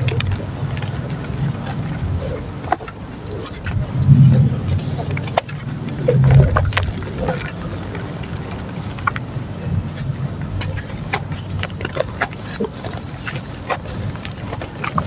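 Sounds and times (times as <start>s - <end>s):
mud crackling and popping: 0.0s - 15.0s
wet mud churning: 0.0s - 15.0s.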